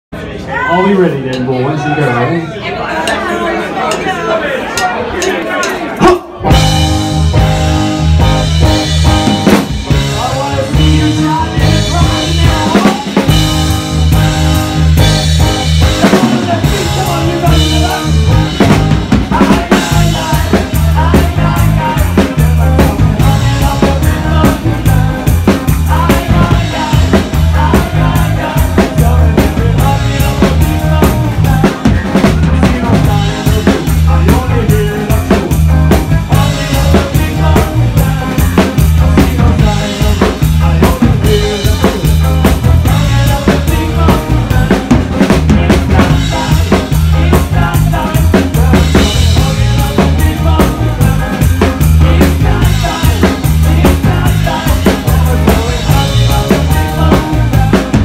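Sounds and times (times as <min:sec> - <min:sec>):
live ska band playing: 0:04.8 - 0:58.0.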